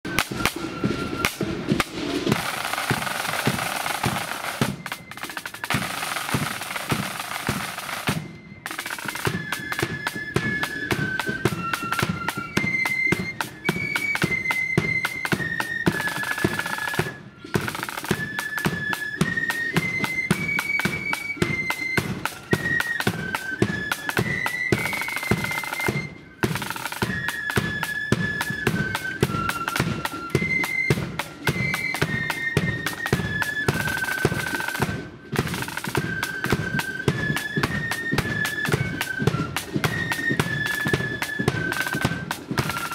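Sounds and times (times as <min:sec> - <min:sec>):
flutes playing marching tune: 0:00.0 - 0:42.9
snare drums: 0:00.0 - 0:42.9.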